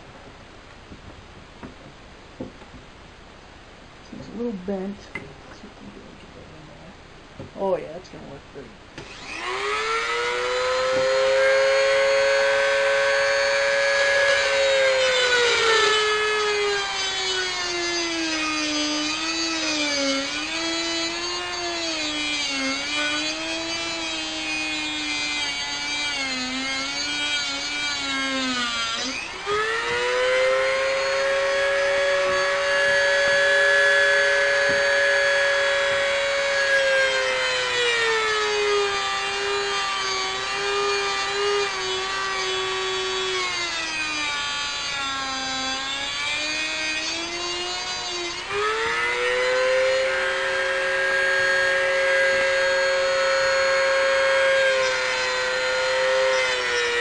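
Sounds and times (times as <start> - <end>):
rotary tool grinding metal: 9.0 - 57.0.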